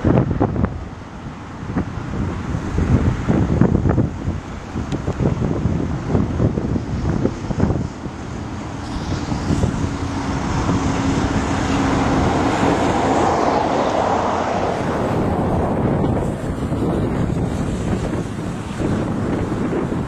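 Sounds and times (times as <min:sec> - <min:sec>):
faint steady engine tone: 0:00.0 - 0:20.0
passing vehicle: 0:00.0 - 0:20.0
wind on microphone: 0:00.0 - 0:20.0.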